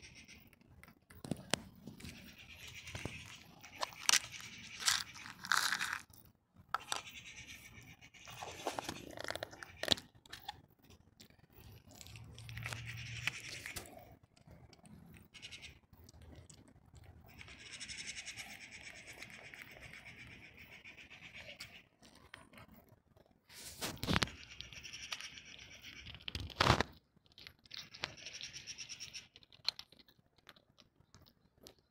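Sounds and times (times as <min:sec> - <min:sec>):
cat crunching dry kibble: 0:00.6 - 0:07.1, 0:08.2 - 0:17.5, 0:22.0 - 0:31.8.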